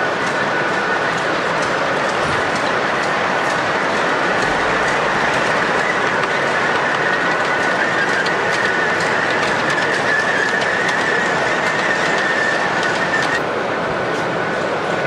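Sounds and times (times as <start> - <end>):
model train wheels clicking: 0.0 - 13.4.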